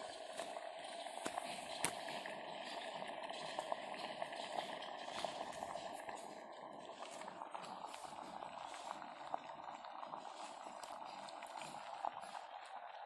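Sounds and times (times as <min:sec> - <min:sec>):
water boiling with hiss and pops: 0:00.0 - 0:13.0.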